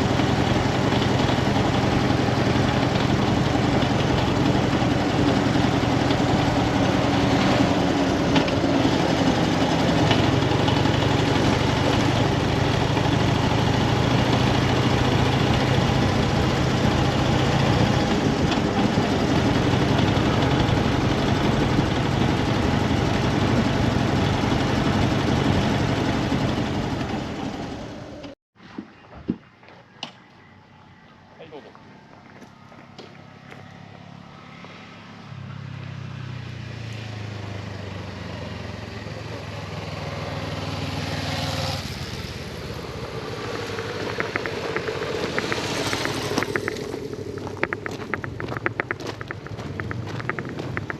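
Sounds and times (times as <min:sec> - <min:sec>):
motorcycle engine running: 0:00.0 - 0:28.3, 0:37.9 - 0:50.9.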